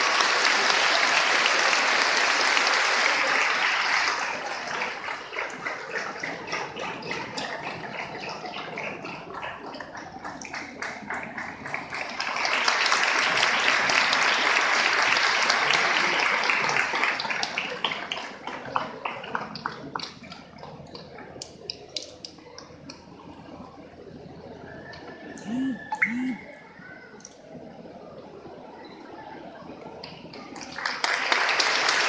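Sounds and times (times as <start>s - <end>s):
crowd applauding: 0.0s - 23.2s, 24.9s - 26.4s, 29.8s - 32.0s.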